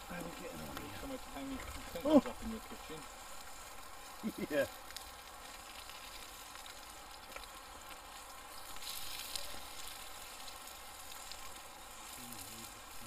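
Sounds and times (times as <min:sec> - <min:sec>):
burgers sizzling in frying pan: 0:00.0 - 0:13.0.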